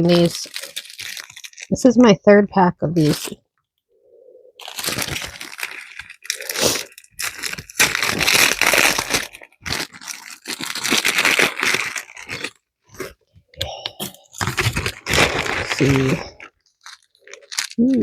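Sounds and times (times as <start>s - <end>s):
plastic packaging crinkling and tearing: 0.0s - 2.1s, 3.0s - 3.4s, 4.6s - 13.2s, 13.8s - 18.0s.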